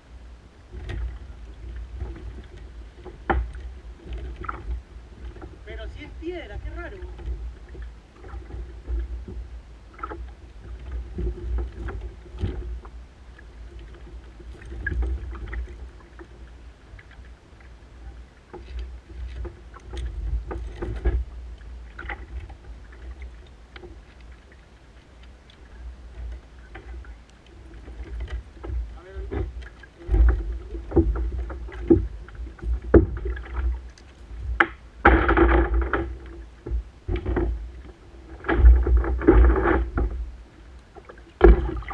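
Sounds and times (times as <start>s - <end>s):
paddle strokes and splashes: 0.0s - 41.9s.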